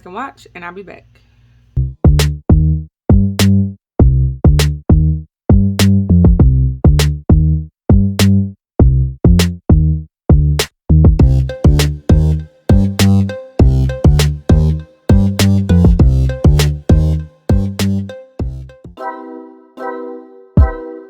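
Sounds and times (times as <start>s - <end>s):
electronic beat with bass: 2.1s - 19.0s, 20.6s - 21.0s.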